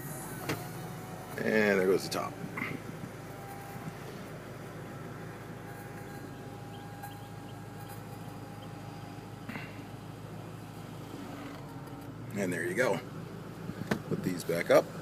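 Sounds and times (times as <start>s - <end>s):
convertible top motor whining: 0.0s - 15.0s.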